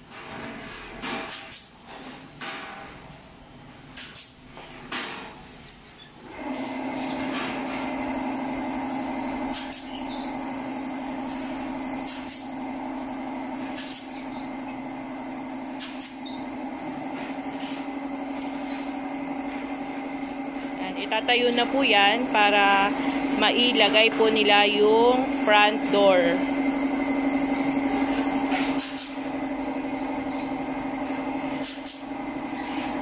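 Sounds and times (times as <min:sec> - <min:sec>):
air compressor humming: 0:00.0 - 0:33.0.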